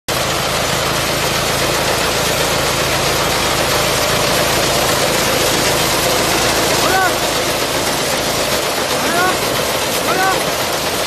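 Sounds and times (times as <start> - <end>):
diesel engine harvester running: 0.1 - 11.0.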